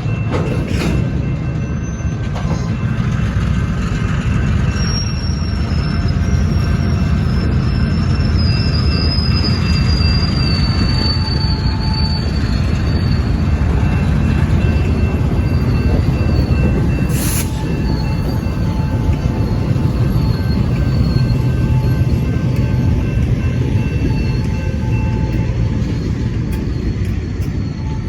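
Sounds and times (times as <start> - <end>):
train low rumble: 0.0 - 28.0
steel wheel squeal: 0.4 - 28.0.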